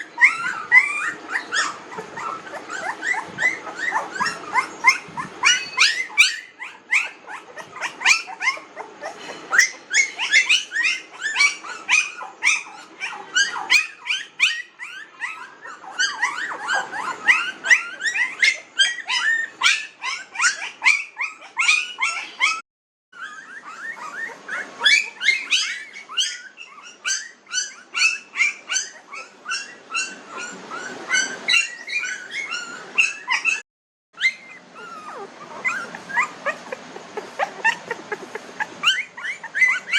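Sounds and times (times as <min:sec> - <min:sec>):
puppies whimpering and squeaking: 0:00.0 - 0:39.9.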